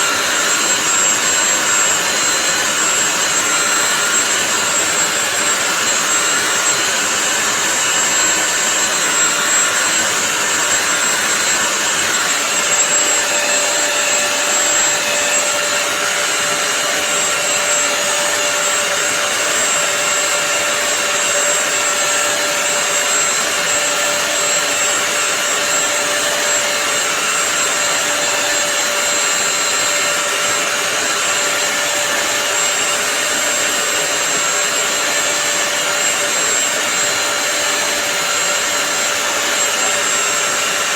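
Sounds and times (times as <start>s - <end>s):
floor cleaner motor whining: 0.0s - 40.9s.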